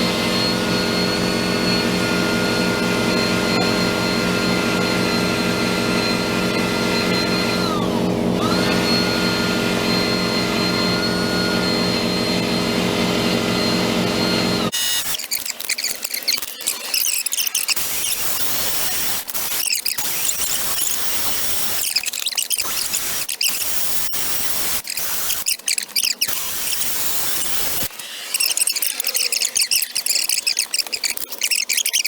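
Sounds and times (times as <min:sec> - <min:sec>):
rotary tool grinding metal: 0:00.0 - 0:32.0.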